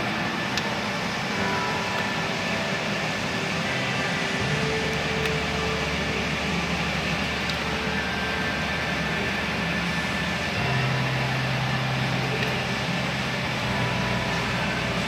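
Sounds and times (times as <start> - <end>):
low hum tone: 0.0 - 15.0
wood furnace rushing hum: 0.0 - 15.0.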